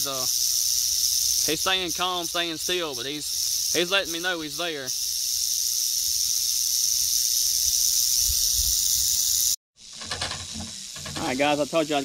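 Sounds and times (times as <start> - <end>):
rattlesnake rattling: 0.0 - 12.0.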